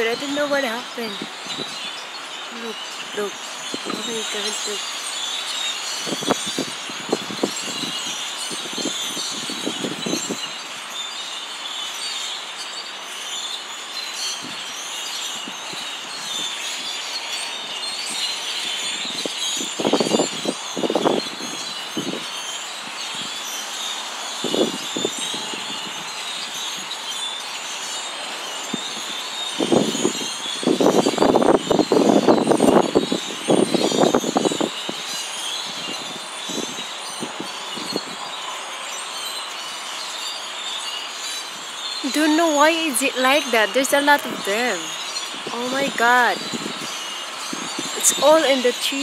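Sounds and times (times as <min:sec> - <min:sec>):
flock of birds chirping: 0:00.0 - 0:49.0.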